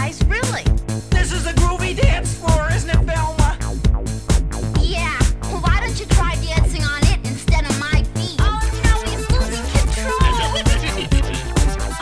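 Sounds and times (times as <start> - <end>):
electronic dance music: 1.1 - 12.0.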